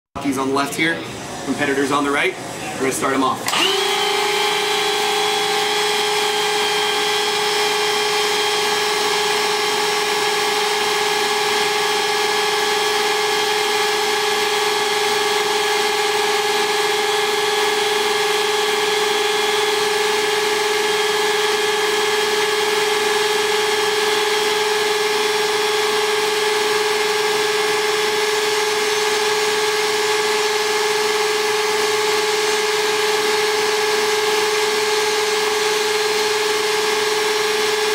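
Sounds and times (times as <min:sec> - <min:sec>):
power drill whining: 0:03.4 - 0:37.9.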